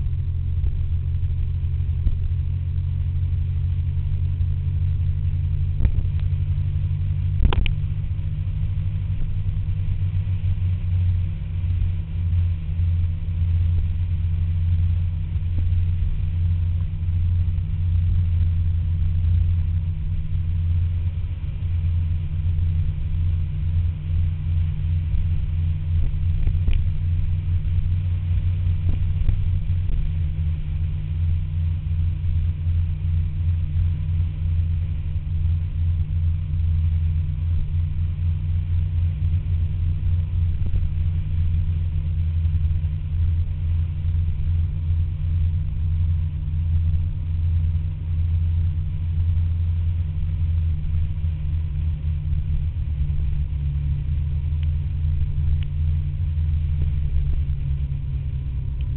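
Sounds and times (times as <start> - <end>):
scooter engine rumble: 0.0 - 58.9.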